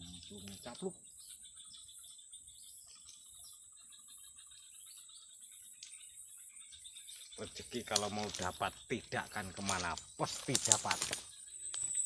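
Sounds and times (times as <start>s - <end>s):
bird chirps: 0.0s - 12.0s
high-pitched insect drone: 0.0s - 12.0s.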